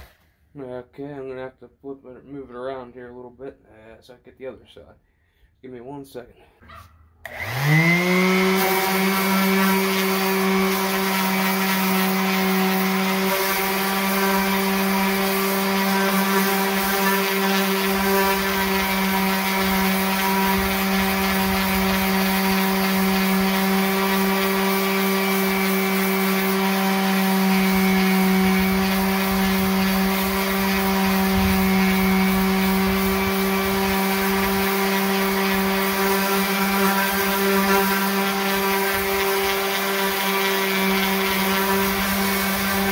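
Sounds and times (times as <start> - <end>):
orbital sander on metal: 7.3 - 42.9.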